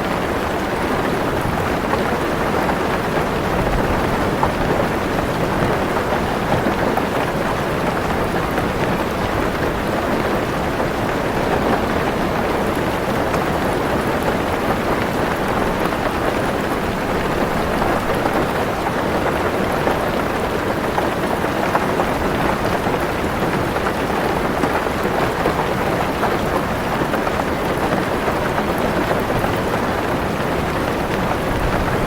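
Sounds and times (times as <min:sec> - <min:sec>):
heavy rain on a car roof: 0:00.0 - 0:32.0.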